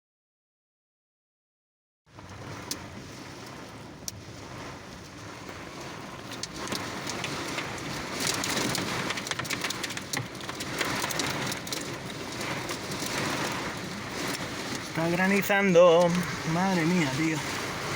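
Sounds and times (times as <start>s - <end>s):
heavy rain and hail pelting: 2.2s - 17.9s.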